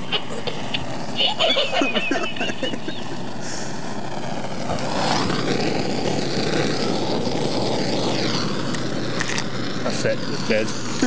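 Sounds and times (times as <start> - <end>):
vehicle noise: 0.0 - 11.0.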